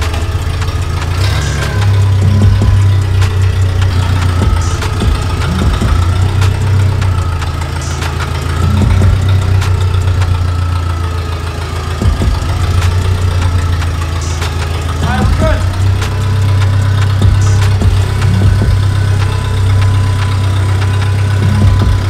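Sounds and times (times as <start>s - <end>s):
forklift engine droning: 0.0s - 22.0s
scattered clicks: 0.0s - 22.0s.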